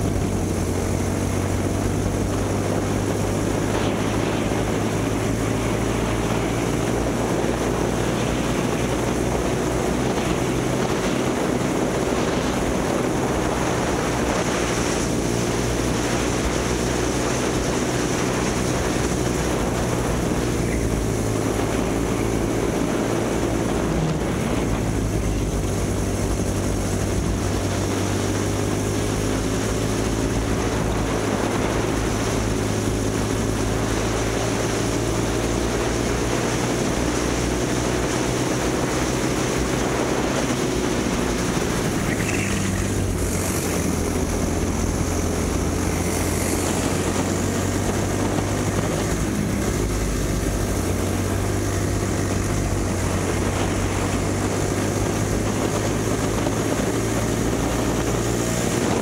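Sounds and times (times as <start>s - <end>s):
kart engine revving: 0.0s - 59.0s
wind and road hiss: 0.0s - 59.0s.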